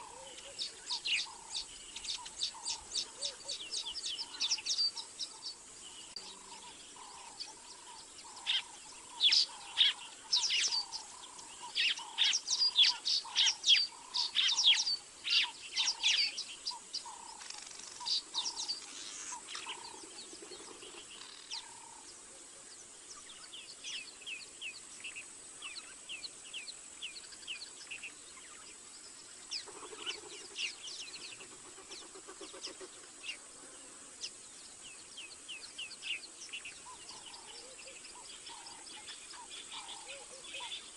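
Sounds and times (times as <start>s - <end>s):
birds chirping high: 0.0s - 40.9s.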